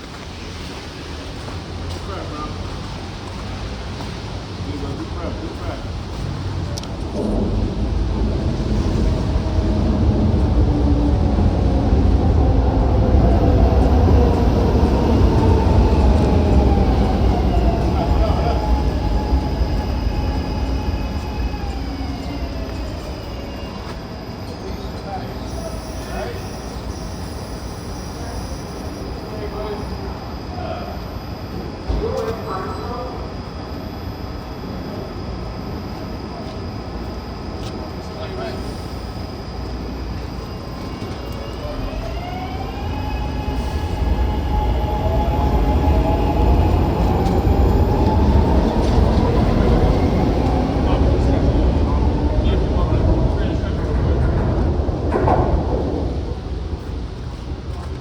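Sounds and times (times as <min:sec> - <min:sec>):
train rumbling on rails: 0:00.0 - 0:58.0
faint steady whining tones: 0:04.7 - 0:58.0.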